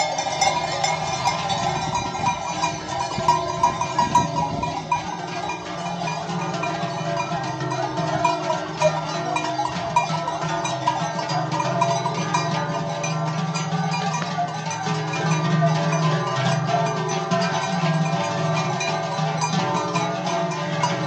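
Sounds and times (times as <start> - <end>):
cowbells clanging: 0.0 - 21.0.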